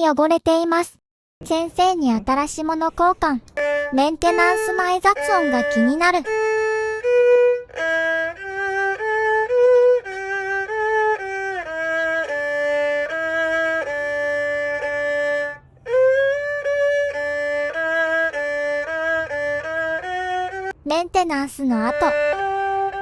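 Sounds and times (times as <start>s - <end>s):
bowed fiddle slow melody: 3.5s - 20.8s, 21.7s - 23.0s.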